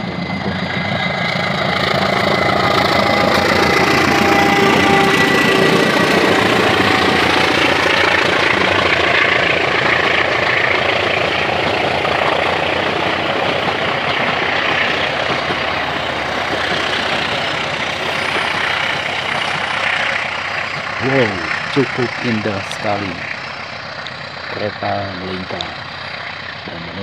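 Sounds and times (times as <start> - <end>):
train wheels rushing on rails: 0.0 - 27.0.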